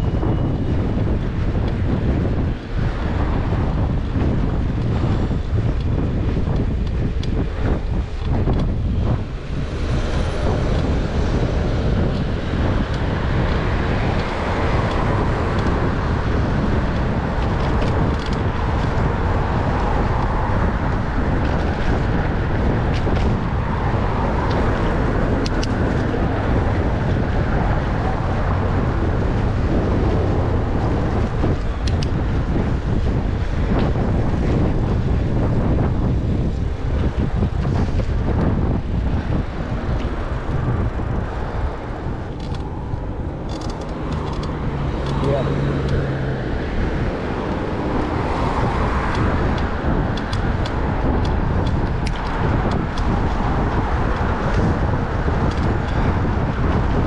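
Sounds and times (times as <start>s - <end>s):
road traffic going by: 0.0s - 57.0s
wind rumbling on microphone: 0.0s - 57.0s.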